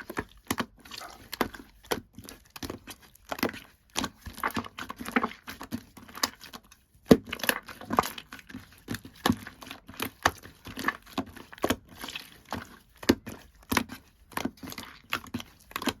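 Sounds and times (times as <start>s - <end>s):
slime popping and crackling: 0.0s - 16.0s.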